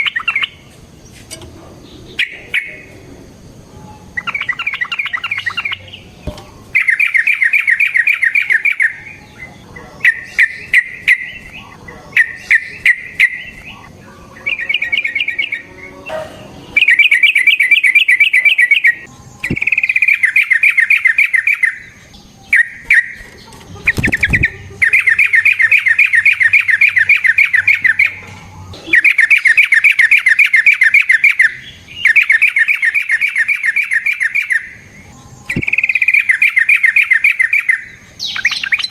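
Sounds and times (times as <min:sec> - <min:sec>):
bird chattering song: 0:00.0 - 0:03.2, 0:03.8 - 0:38.9.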